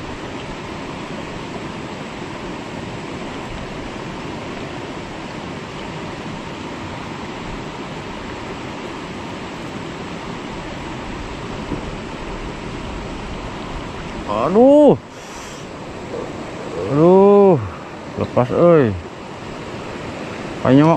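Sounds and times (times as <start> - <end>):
river water rushing over rocks: 0.0 - 20.9.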